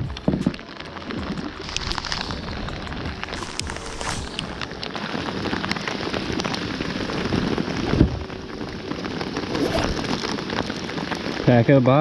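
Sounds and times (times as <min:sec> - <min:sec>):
rain falling on water: 0:00.0 - 0:12.0
plastic bag crinkling: 0:00.1 - 0:11.7.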